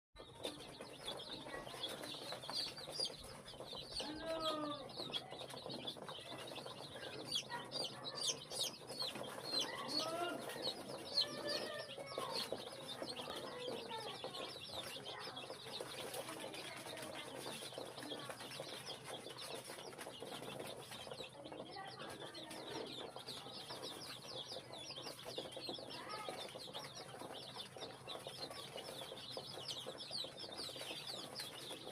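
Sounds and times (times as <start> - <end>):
chicks peeping: 0.2 - 31.9.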